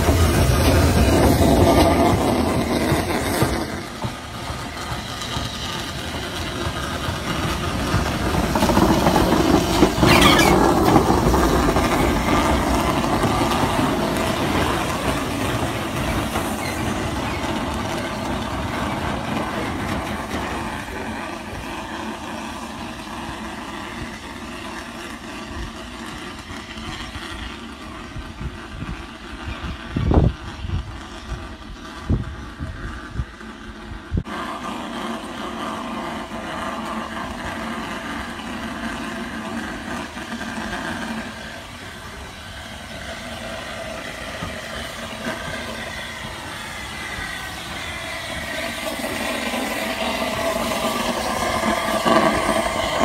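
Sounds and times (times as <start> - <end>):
sharp steam burst: 0.0 - 53.0
steam locomotive running: 0.0 - 53.0.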